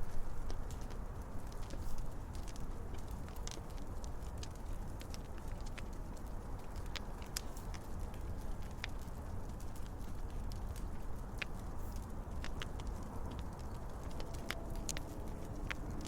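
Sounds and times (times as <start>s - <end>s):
fire crackling with pops and snaps: 0.0s - 16.0s
low rumbling background noise: 0.0s - 16.0s.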